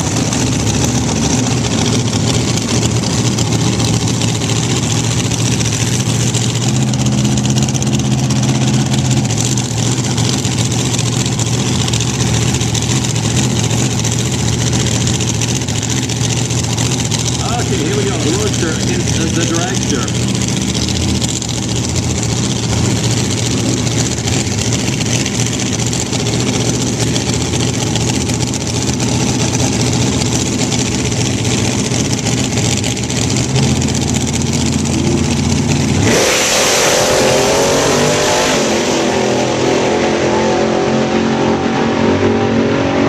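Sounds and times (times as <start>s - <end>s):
dragster engine revving: 0.0s - 43.0s.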